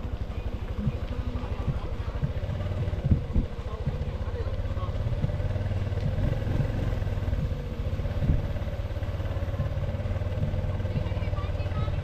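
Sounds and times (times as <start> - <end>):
motorcycle engine running: 0.0 - 12.0
engine knock: 0.1 - 12.0.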